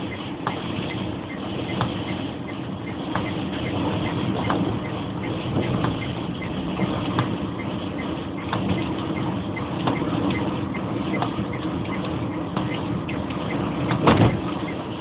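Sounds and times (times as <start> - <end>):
car engine and tyres rumbling: 0.0 - 15.0
light regular ticking: 0.0 - 15.0.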